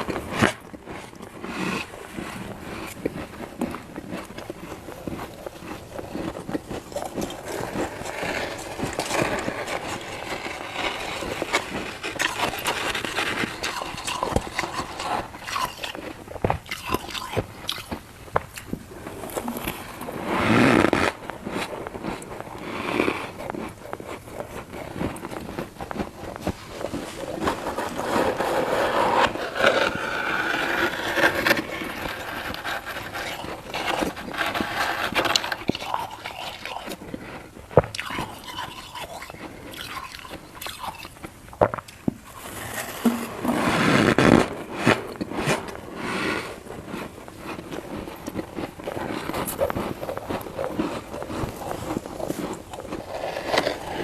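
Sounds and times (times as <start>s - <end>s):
scraping: 0.0s - 39.8s, 41.7s - 54.0s
frost being chewed: 0.0s - 54.0s.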